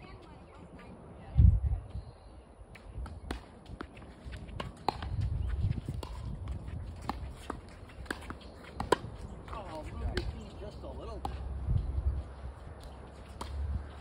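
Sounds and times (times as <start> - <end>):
footsteps on tennis court: 2.8 - 14.0.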